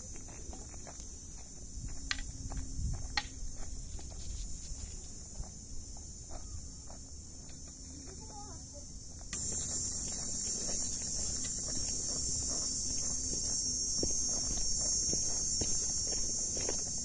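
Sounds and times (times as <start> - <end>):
footsteps on dirt trail: 0.0 - 17.0
high-pitched insect drone: 0.0 - 17.0.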